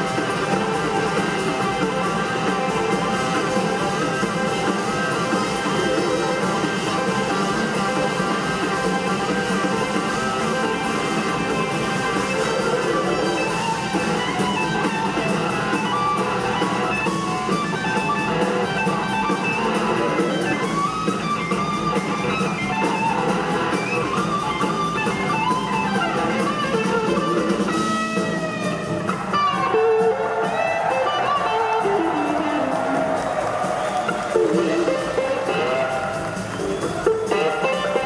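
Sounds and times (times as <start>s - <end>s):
drum kit steady beat: 0.0s - 38.0s
electric guitar lead: 0.0s - 38.0s.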